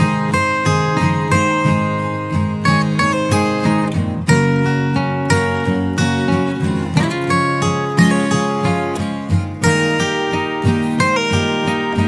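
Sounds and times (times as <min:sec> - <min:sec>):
acoustic guitar plucking: 0:00.0 - 0:12.0.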